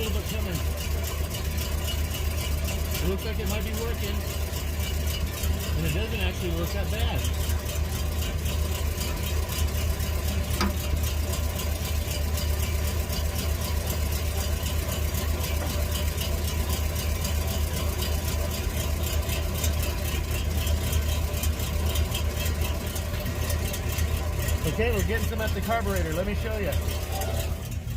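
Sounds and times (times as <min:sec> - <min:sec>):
bus engine idling: 0:00.0 - 0:27.9.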